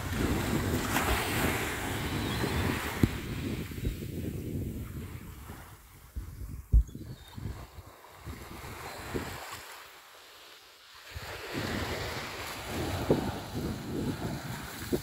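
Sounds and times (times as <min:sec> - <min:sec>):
small waves washing ashore: 0:00.0 - 0:06.7, 0:07.4 - 0:15.0
wind buffeting microphone: 0:00.0 - 0:09.6, 0:11.2 - 0:15.0.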